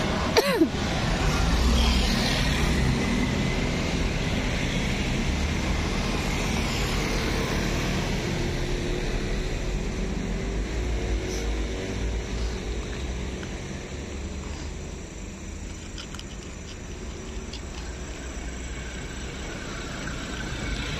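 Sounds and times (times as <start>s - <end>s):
low rumble of traffic: 0.0s - 20.9s.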